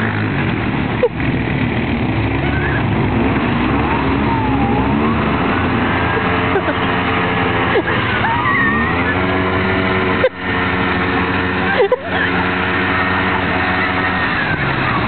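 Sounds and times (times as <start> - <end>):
motorcycle engine running: 0.0 - 15.0
voices calling: 2.2 - 15.0.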